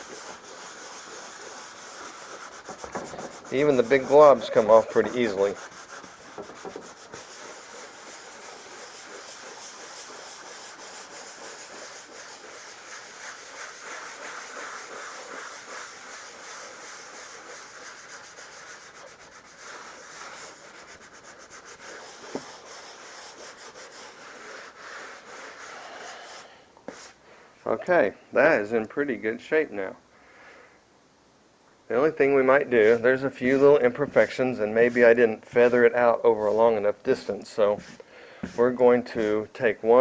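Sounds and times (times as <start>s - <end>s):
sanding sponge rubbing drywall: 0.0s - 27.2s, 32.0s - 40.0s.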